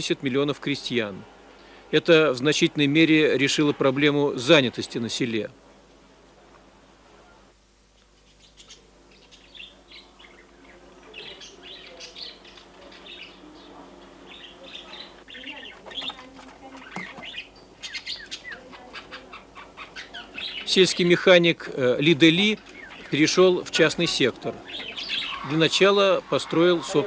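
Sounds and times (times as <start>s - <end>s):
birds chirping: 0.0s - 6.0s, 7.0s - 27.0s.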